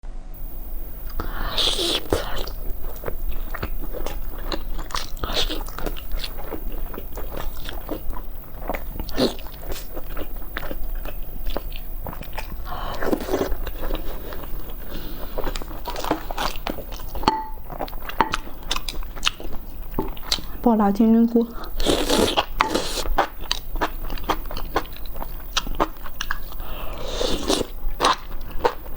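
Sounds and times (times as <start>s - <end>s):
crisp bites and chewing: 0.4s - 20.6s, 21.6s - 28.9s.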